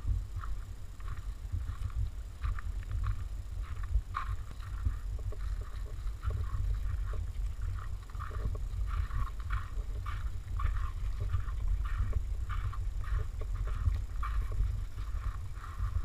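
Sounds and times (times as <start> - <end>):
footsteps on gravel: 0.0 - 16.0
wind rumble on microphone: 0.0 - 16.0.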